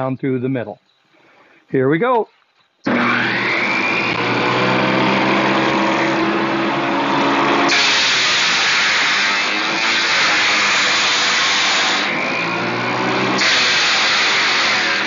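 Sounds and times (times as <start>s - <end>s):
table saw whining: 2.4s - 15.0s
saw shredding cardboard: 2.8s - 15.0s.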